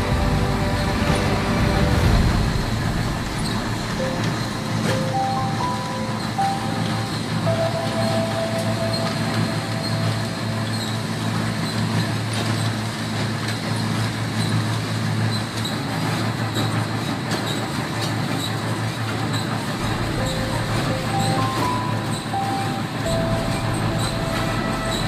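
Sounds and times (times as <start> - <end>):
machinery rumble and hum: 0.0 - 25.0.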